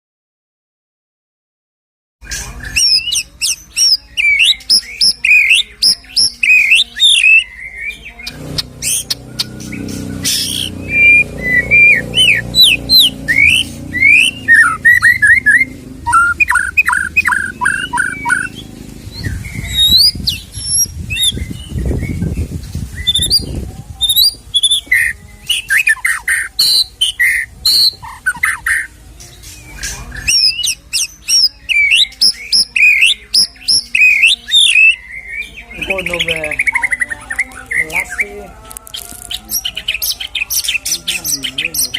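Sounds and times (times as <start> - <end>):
bird singing whistled phrases and trills: 2.2 - 41.9.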